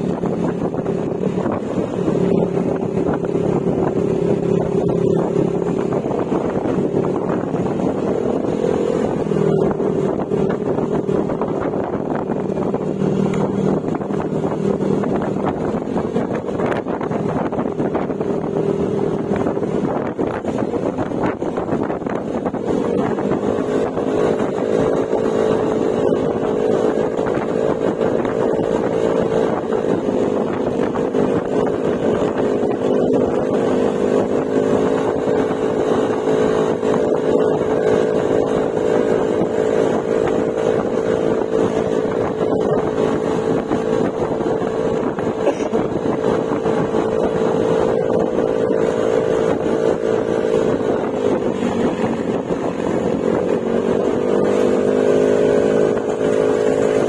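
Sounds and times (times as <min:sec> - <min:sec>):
scooter engine cruising: 0:00.0 - 0:57.0.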